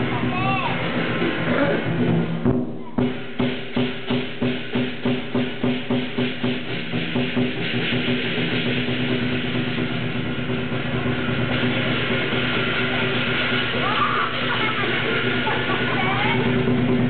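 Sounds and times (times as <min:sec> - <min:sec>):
cymbals and gong ringing: 0:00.0 - 0:17.0
lion drum beating: 0:00.0 - 0:17.0.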